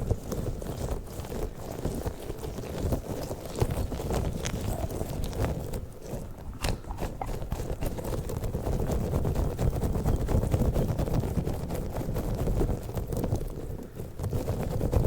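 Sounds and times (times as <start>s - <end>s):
rubber balls squeezed and tapped: 0.0s - 15.0s.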